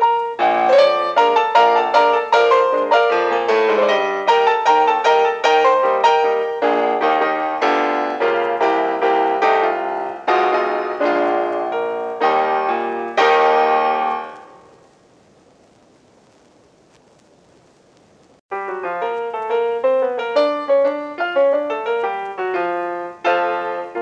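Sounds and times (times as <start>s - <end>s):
piano music: 0.0s - 14.8s, 18.5s - 24.0s.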